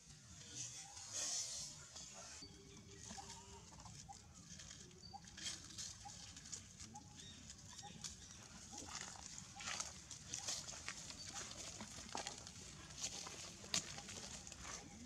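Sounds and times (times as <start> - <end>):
rustling on dry leaves: 0.4 - 15.0.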